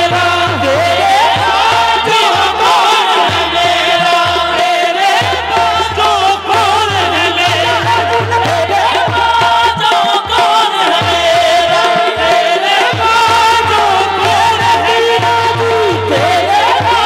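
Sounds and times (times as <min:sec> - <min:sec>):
harmonium tones: 0:00.0 - 0:17.0.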